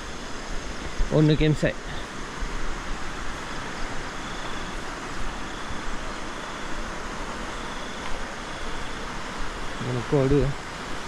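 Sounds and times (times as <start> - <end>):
river water rushing over rocks: 0.0 - 9.8.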